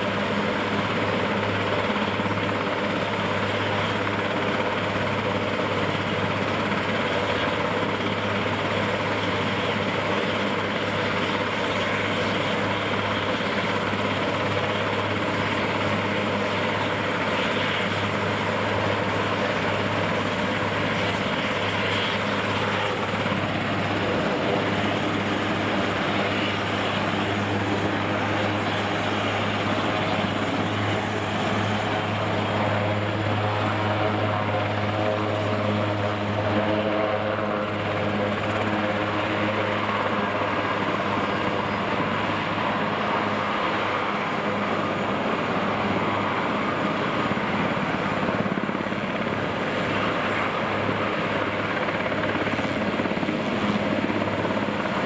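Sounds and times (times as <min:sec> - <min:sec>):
helicopter engine drone: 0:00.0 - 0:55.0.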